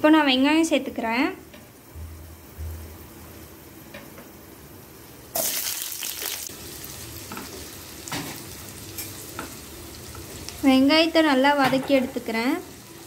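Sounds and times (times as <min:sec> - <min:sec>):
onions sizzling in hot oil: 0:00.2 - 0:13.0.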